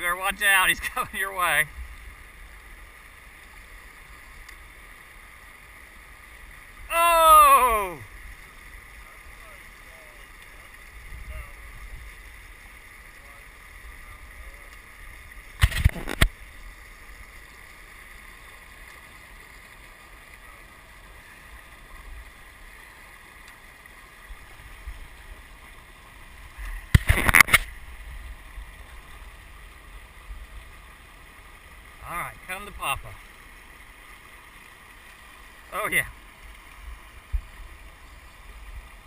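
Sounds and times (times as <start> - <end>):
river water over rapids: 0.0 - 39.0.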